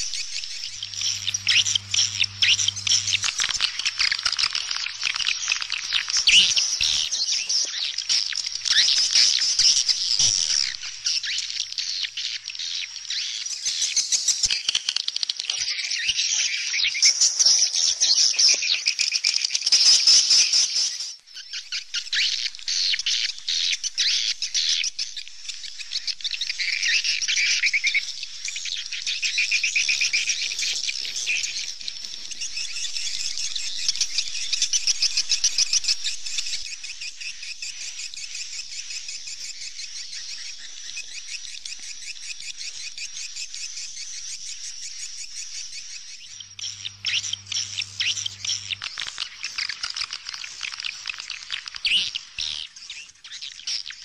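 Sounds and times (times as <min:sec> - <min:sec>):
swallows twittering: 0:00.0 - 0:54.0.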